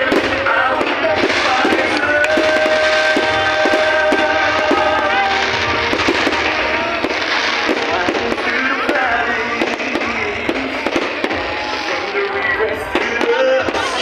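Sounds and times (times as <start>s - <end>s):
firework whistles: 0.0s - 14.0s
fireworks crackling and popping: 0.0s - 14.0s
music: 0.0s - 14.0s.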